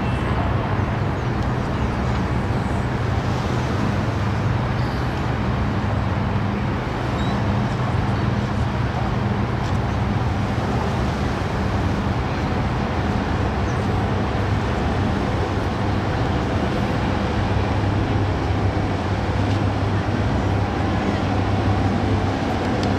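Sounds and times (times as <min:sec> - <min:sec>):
constant wash of noise: 0:00.0 - 0:22.9
ferry diesel engines humming: 0:00.0 - 0:22.9.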